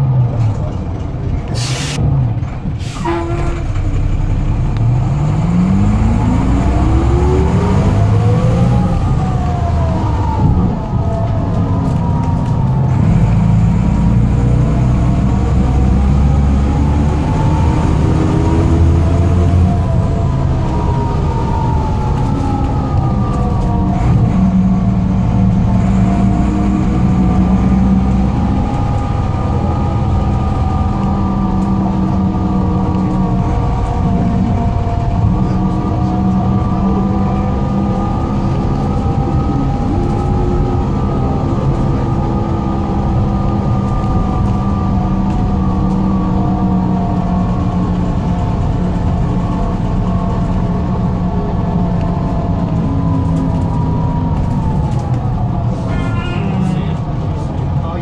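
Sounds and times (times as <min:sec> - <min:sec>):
bus diesel engine pulling hard: 0:00.0 - 0:58.0.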